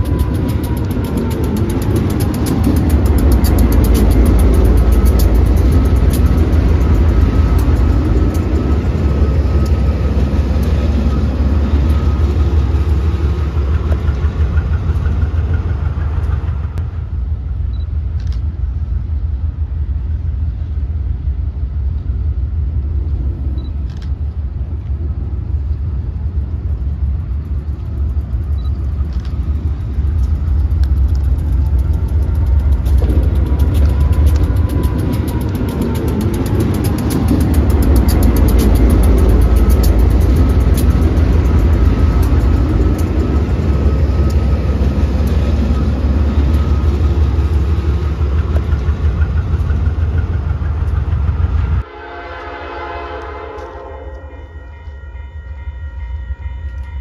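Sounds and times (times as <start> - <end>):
diesel locomotive engine rumble: 0.0 - 57.0
locomotive whine: 0.0 - 57.0.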